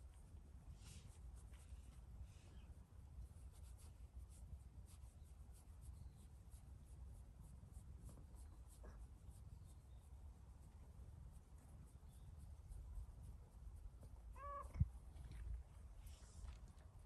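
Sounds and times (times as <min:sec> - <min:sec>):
hand rubbing cat's fur: 0:00.0 - 0:14.6, 0:15.2 - 0:17.0
low steady rumble: 0:00.0 - 0:17.0.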